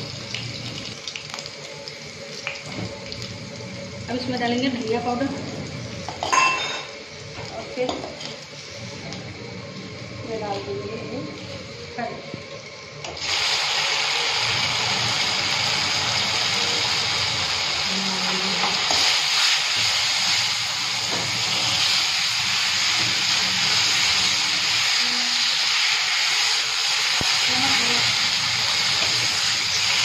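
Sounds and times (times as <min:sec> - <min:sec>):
dumplings sizzling in hot oil: 0:00.0 - 0:10.6, 0:13.1 - 0:30.0.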